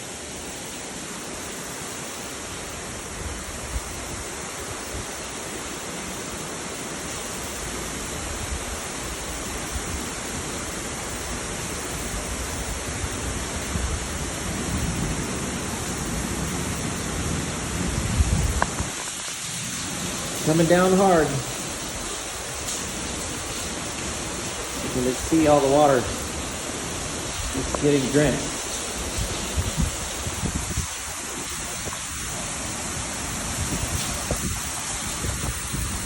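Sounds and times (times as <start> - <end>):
heavy rain pouring: 0.0 - 36.0.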